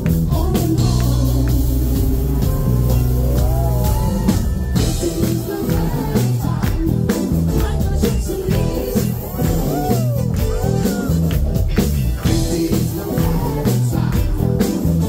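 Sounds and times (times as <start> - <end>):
person singing: 0.0 - 11.3, 11.9 - 15.0
drum beat and bass: 0.0 - 15.0.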